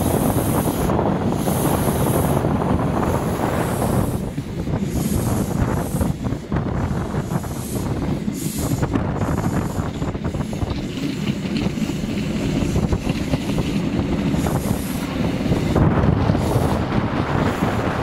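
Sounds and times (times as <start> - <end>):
train wheels rumbling on rails: 0.0 - 18.0
wind buffeting microphone: 0.0 - 18.0.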